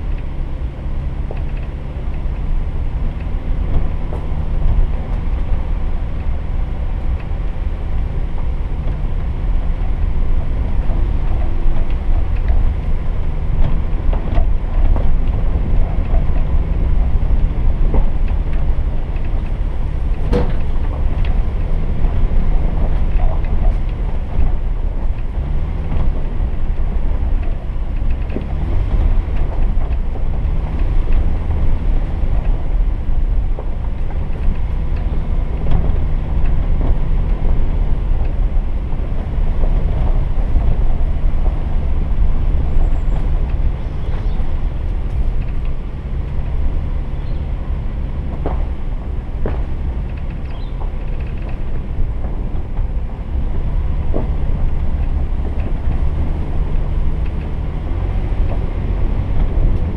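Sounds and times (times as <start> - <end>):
engine rumble: 0.0 - 59.9
knocks and rattles: 8.4 - 59.9.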